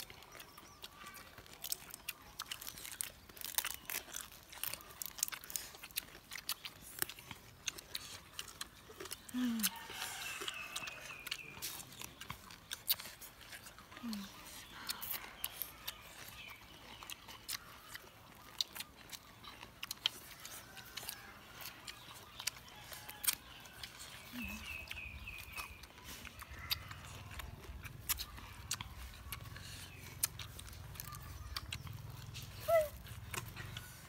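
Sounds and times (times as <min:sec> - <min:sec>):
people chewing and lip-smacking: 0:00.0 - 0:34.0.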